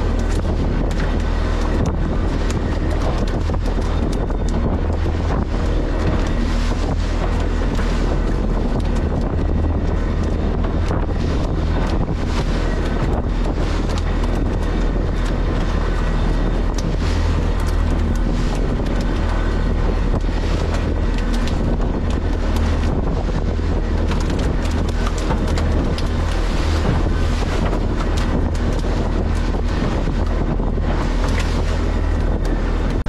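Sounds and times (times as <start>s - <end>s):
boat motor rumbling: 0.0s - 33.0s
wind buffeting microphone: 0.0s - 33.0s.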